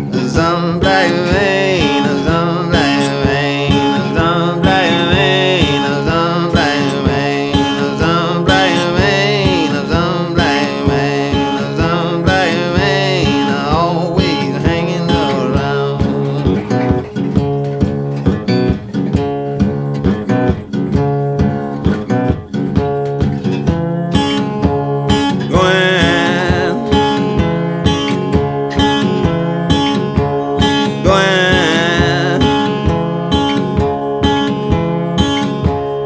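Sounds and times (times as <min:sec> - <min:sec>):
wavering lead phrases: 0:00.0 - 0:19.8, 0:23.2 - 0:36.0
steady beat: 0:00.0 - 0:36.0
strummed acoustic guitar: 0:00.0 - 0:36.0.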